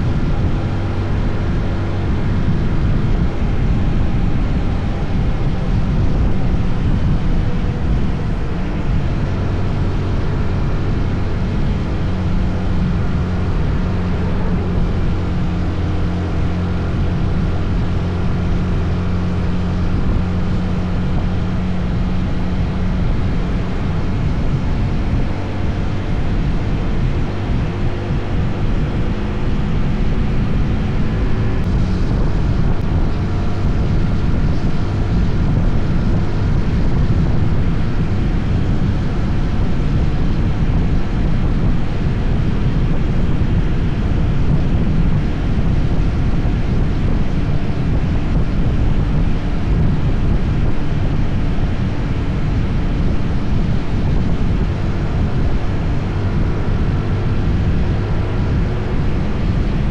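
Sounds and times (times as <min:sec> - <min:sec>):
motorcycle engine running: 0:00.0 - 0:59.9
road noise: 0:00.0 - 0:59.9
wind noise on microphone: 0:00.0 - 0:59.9.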